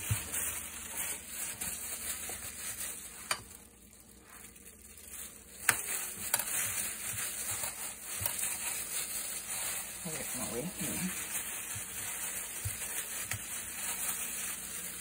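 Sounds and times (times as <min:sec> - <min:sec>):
plastic gloves crinkling: 0:00.0 - 0:15.0.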